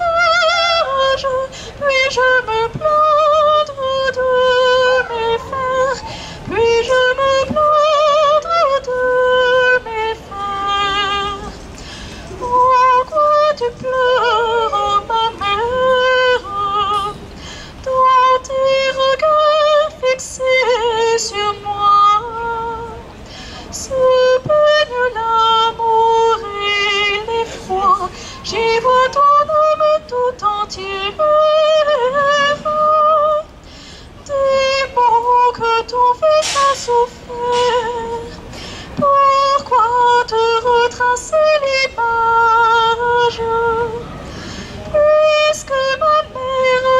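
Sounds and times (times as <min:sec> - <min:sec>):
woman singing unaccompanied: 0:00.0 - 0:33.6, 0:34.2 - 0:44.2, 0:44.8 - 0:46.9.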